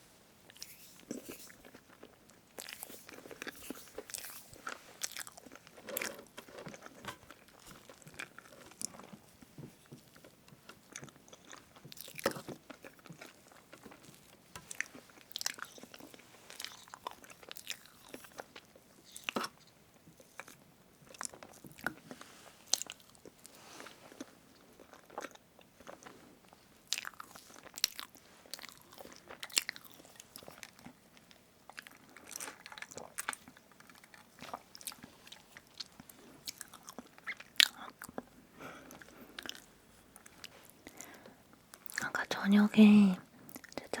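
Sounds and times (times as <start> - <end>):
wet chewing and mouth smacks: 0.5 - 9.2, 9.9 - 42.1, 43.5 - 44.0.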